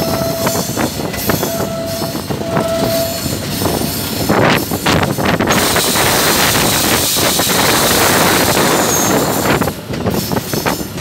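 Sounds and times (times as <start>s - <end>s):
locomotive running: 0.0s - 11.0s
wind rushing over microphone: 0.0s - 11.0s.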